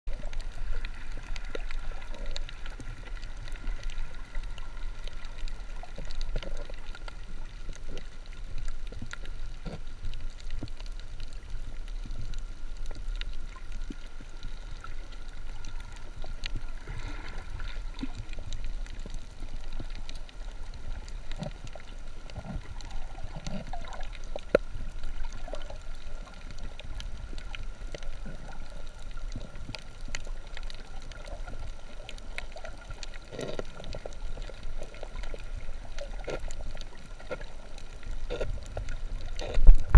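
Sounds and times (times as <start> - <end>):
faint clicks and crackles: 0.1 - 39.9
low underwater rumble: 0.1 - 39.9.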